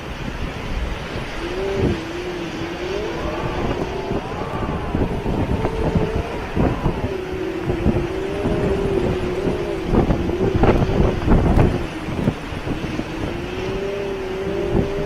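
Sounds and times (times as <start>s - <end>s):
hurricane wind gusting: 0.0s - 15.0s
wavering wind howl: 0.0s - 15.0s.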